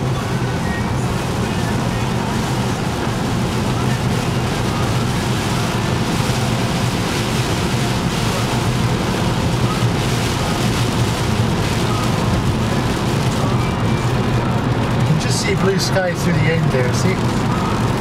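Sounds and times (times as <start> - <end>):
car engine and tyre noise: 0.0 - 18.0
heavy rain on car windscreen: 0.0 - 18.0.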